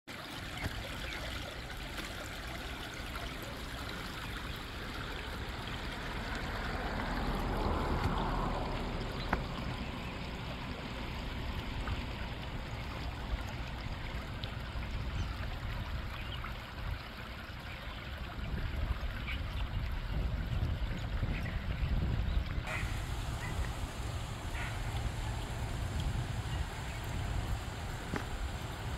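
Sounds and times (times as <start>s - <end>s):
stream water trickling: 0.1s - 28.9s.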